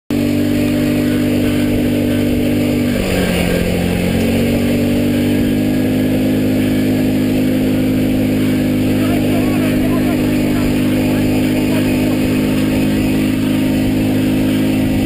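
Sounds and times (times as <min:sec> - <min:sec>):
buggy engine running: 0:00.1 - 0:15.0.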